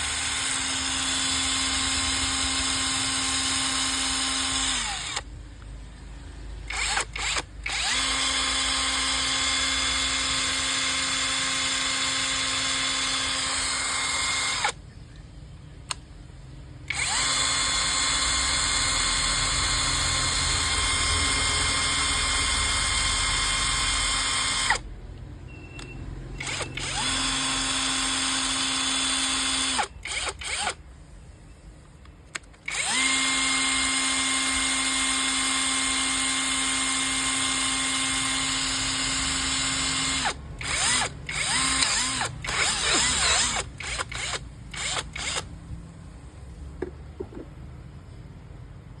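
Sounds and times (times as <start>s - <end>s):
cordless drill motor spinning: 0.0s - 5.3s, 6.6s - 14.8s, 16.9s - 24.9s, 26.4s - 30.8s, 32.3s - 45.6s
drill trigger blips: 0.0s - 5.3s, 6.7s - 14.8s, 16.9s - 30.8s, 32.2s - 45.6s.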